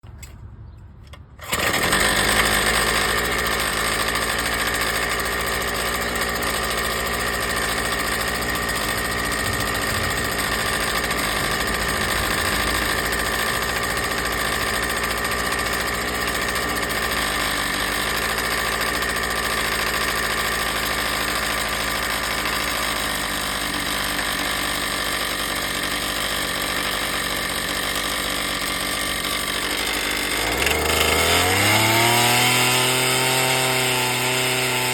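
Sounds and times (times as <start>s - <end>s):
two-stroke engine running: 1.0s - 34.9s.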